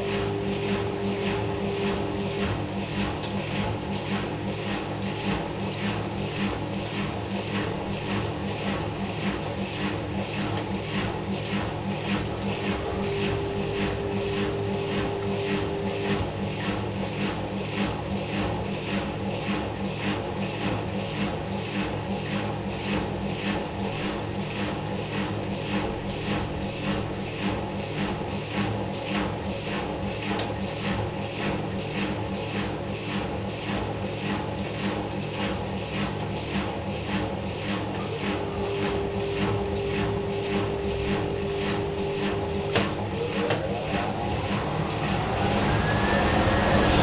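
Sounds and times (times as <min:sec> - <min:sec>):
rhythmic swishing: 0:00.0 - 0:21.8, 0:22.8 - 0:47.0
washing machine spinning: 0:00.0 - 0:47.0.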